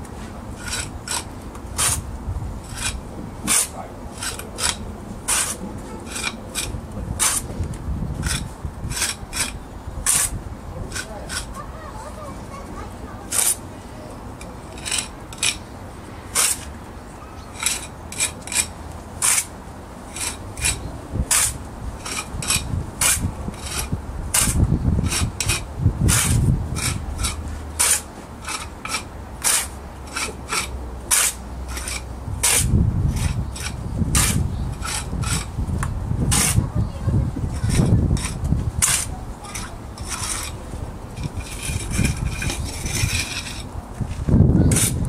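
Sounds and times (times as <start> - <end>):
trowel scraping mortar joints: 0.2 - 12.2, 13.2 - 13.6, 14.4 - 15.7, 16.3 - 16.7, 17.4 - 19.5, 20.1 - 35.5, 36.3 - 36.6, 37.4 - 45.0.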